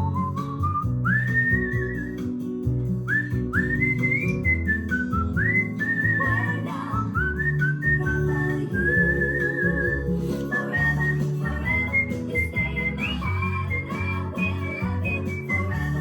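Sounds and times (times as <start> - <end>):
bird whistling: 0.0 - 2.4, 3.1 - 16.0
background music: 0.0 - 16.0.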